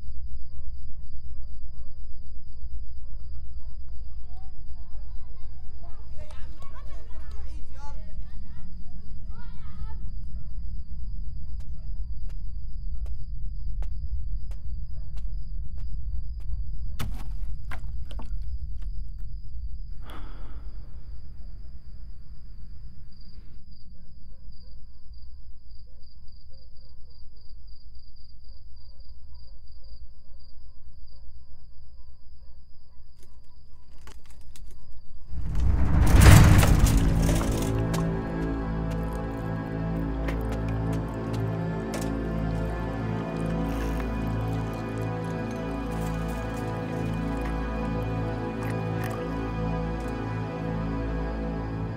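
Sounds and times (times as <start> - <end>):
low night rumble: 0.0 - 26.6, 35.0 - 51.9
crickets chirping: 0.0 - 51.9.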